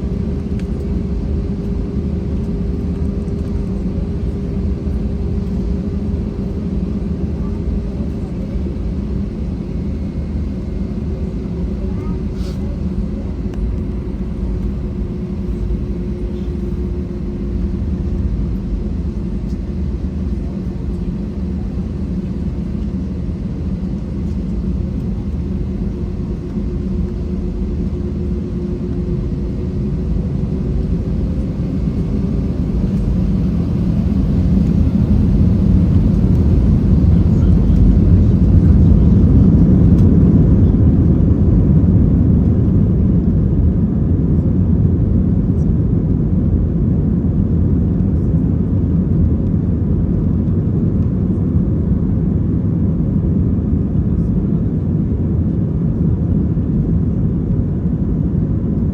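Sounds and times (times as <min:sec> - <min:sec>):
airplane cabin engine rumble: 0:00.0 - 0:58.9
faint hum: 0:00.0 - 0:58.9.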